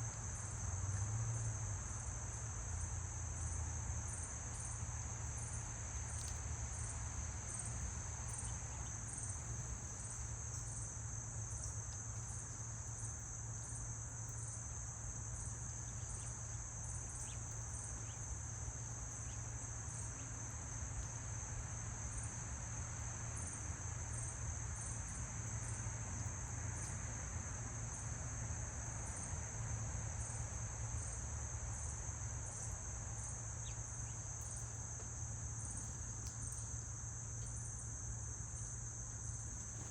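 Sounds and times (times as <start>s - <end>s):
crickets trilling: 0.0s - 39.9s
higher pulsing insect call: 1.4s - 39.9s.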